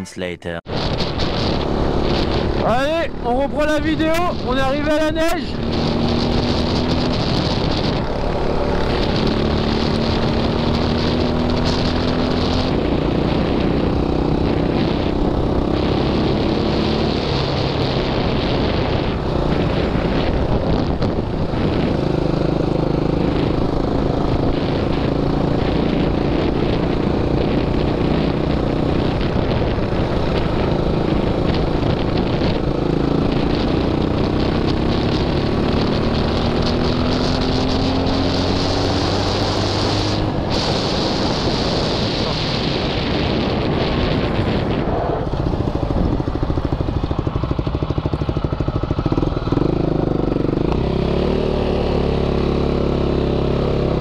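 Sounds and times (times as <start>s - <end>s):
atv engine revving: 0.7s - 54.0s.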